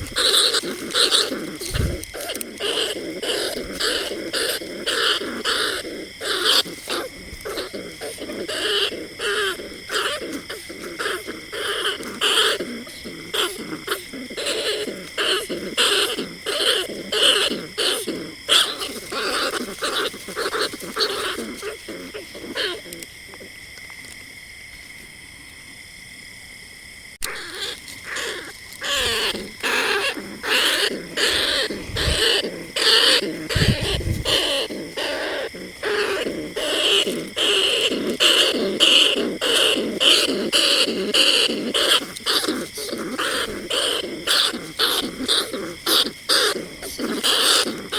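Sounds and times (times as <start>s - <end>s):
rat squeaking and chattering: 0.0s - 23.5s, 27.2s - 47.9s.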